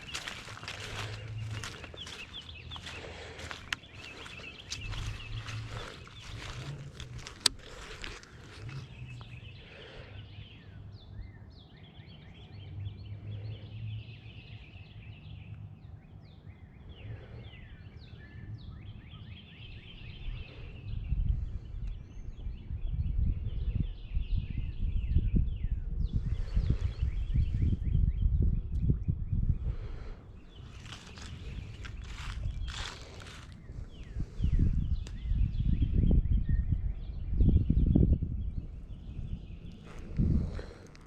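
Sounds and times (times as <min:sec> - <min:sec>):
low microphone rumble: 0:00.0 - 0:15.4, 0:16.1 - 0:41.0
small birds chirping: 0:00.0 - 0:41.0.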